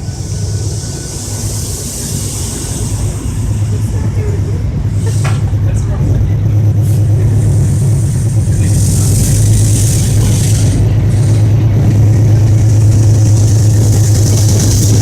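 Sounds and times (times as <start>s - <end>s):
hiss: 0.0s - 4.0s, 4.9s - 5.4s, 6.9s - 15.0s
diesel locomotive engine humming: 0.0s - 15.0s.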